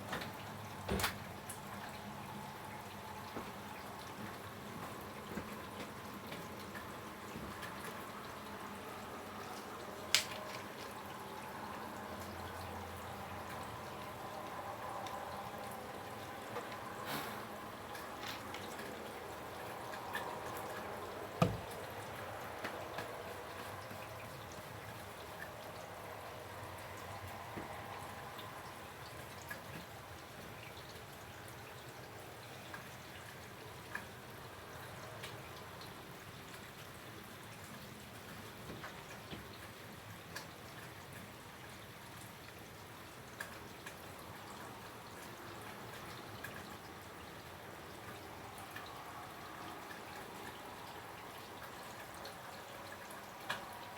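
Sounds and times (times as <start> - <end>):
steady rain falling: 0.0 - 53.9
water drips: 0.0 - 53.9.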